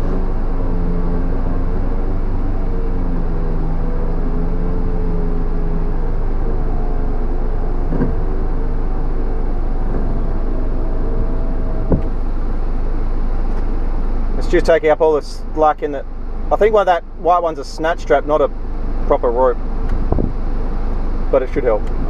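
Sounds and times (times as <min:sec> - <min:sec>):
winch motor whine: 0:00.0 - 0:22.0.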